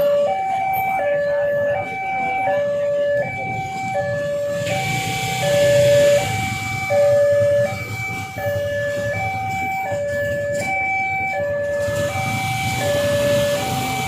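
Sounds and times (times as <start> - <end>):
level crossing two-tone alarm: 0.0 - 14.0.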